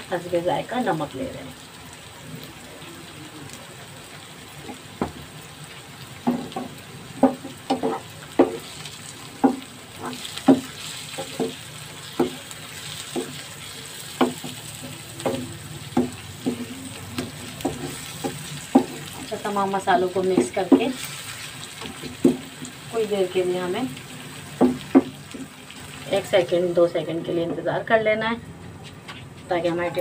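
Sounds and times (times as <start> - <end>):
low sizzle of frying: 0.0 - 30.0.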